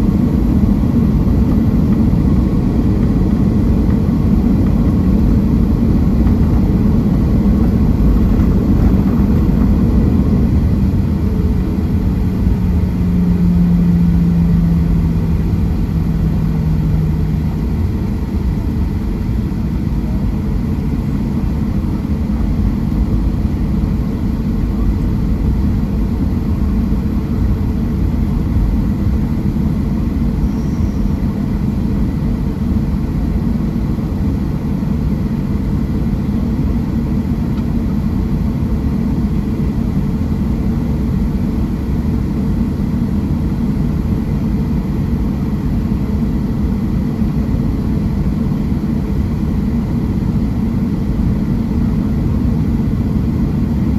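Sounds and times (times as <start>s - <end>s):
aircraft cabin engine rumble: 0.0s - 53.9s
steady hum: 0.0s - 53.9s.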